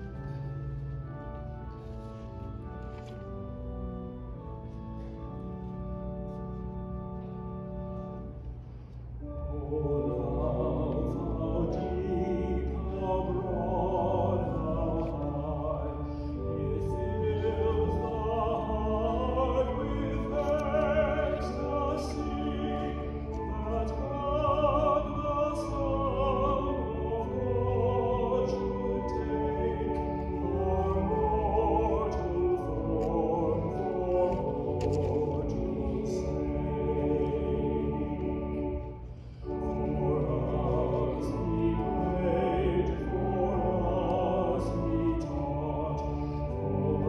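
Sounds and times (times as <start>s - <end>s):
sustained accompanying chords: 0.0s - 47.0s
person singing with vibrato: 9.2s - 47.0s.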